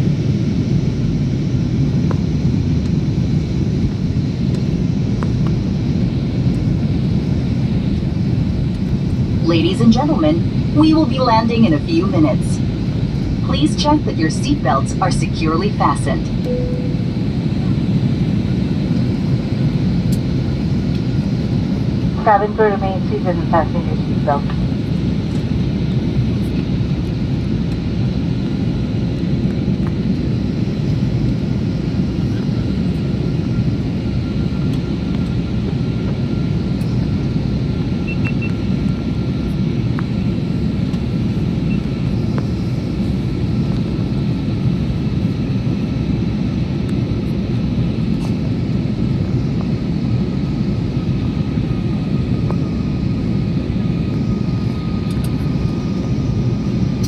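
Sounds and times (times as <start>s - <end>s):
faint steady whine: 0.0s - 57.0s
jet engine roar: 0.0s - 57.0s.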